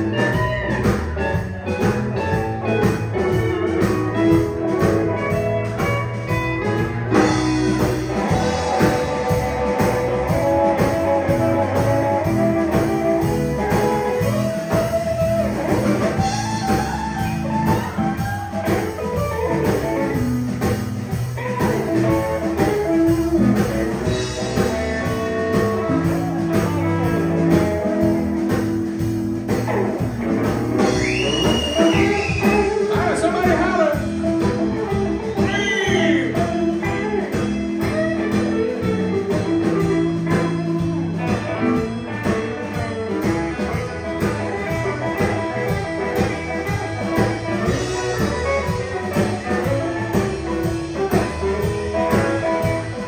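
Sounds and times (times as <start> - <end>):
country band playing: 0.0 - 53.0
drum beat: 0.0 - 53.0
electric guitar: 0.0 - 53.0.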